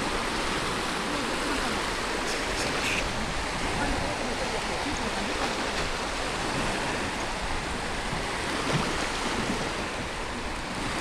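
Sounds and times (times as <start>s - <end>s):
small waves breaking: 0.0s - 11.0s.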